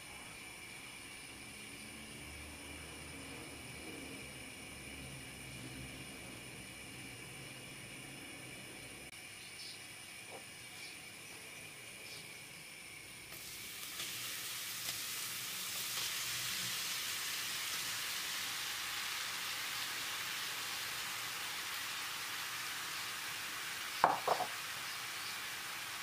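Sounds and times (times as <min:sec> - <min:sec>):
food sizzling in hot oil: 0:00.4 - 0:26.0.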